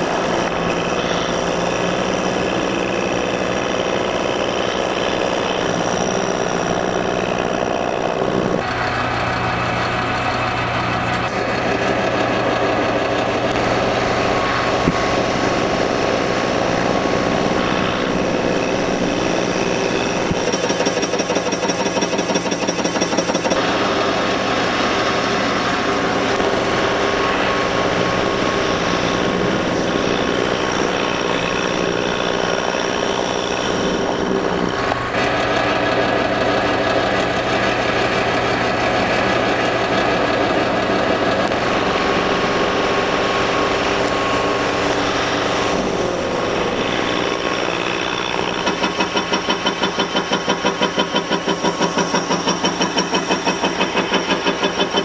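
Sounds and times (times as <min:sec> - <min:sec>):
metal lathe cutting steel: 0:00.0 - 0:55.0.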